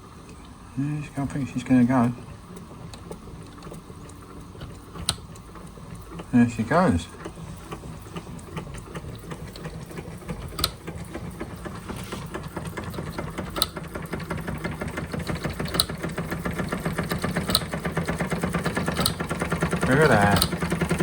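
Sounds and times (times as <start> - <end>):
toy steam engine clattering: 1.0 - 21.0.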